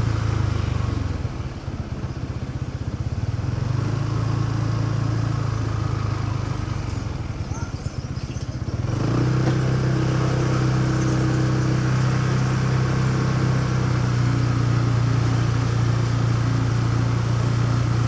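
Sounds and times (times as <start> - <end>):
motorcycle engine: 0.0 - 18.0
road and traffic noise: 0.0 - 18.0.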